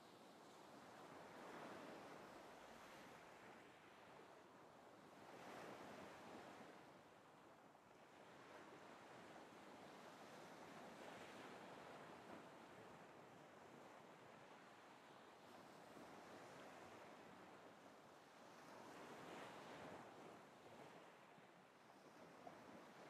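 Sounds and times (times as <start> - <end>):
faint ocean waves: 0.0 - 23.0.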